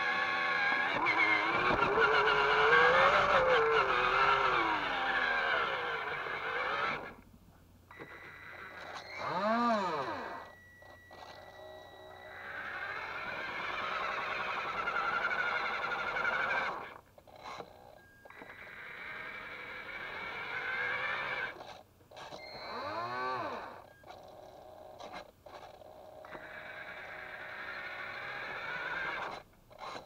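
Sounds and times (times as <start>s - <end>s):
toy forklift motor whining: 0.0s - 7.2s, 7.9s - 30.0s.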